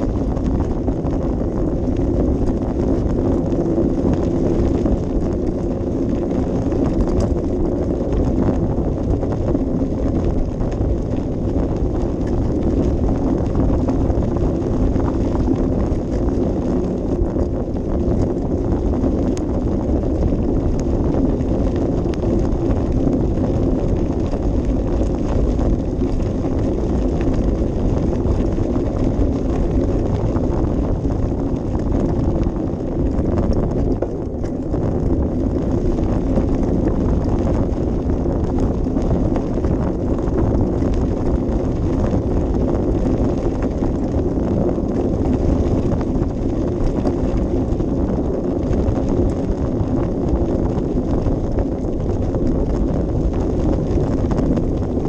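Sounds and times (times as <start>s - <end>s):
bicycle rattling: 0.0s - 55.0s
wind rumble on microphone: 0.0s - 55.0s.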